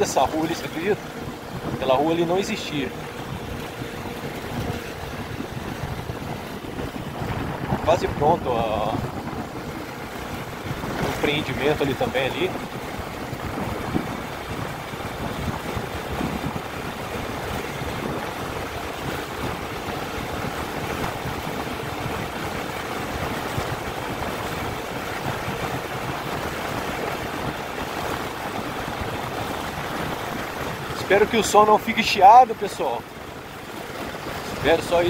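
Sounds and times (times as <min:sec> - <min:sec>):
wind on microphone: 0:00.0 - 0:35.0.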